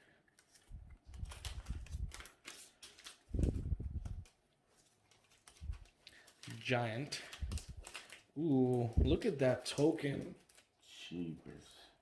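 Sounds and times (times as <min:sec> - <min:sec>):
cards clicking and rustling: 0:00.4 - 0:10.7.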